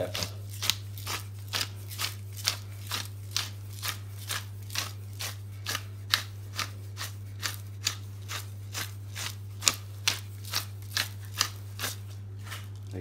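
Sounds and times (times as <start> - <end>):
pepper mill grinding: 0.0 - 13.0
steady low hum: 0.0 - 13.0.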